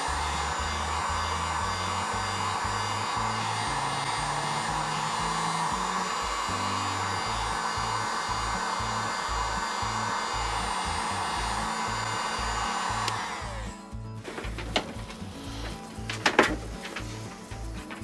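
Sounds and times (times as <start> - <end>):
hot-air blower running: 0.0 - 18.0.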